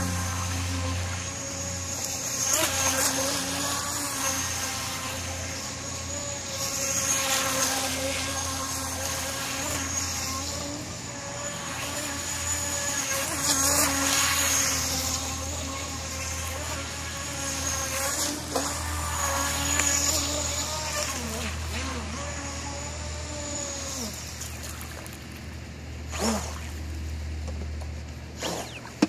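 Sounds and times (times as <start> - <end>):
electric boat motor whine: 0.0 - 29.0.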